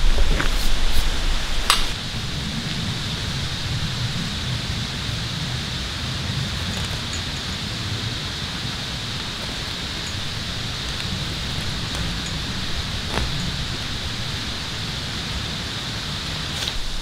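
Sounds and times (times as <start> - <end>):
low rumble: 0.0 - 17.0
outdoor hiss: 0.0 - 17.0.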